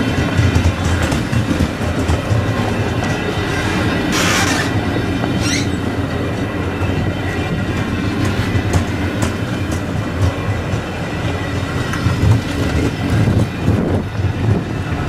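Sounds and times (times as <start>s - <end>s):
train low rumble: 0.0s - 15.0s
train wheels clicking on rails: 0.0s - 15.0s.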